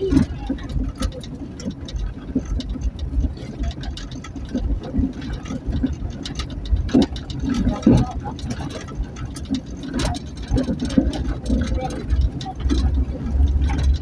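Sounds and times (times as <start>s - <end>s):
small knocks and rattles: 0.0s - 14.0s
vehicle engine and road rumble: 0.0s - 14.0s.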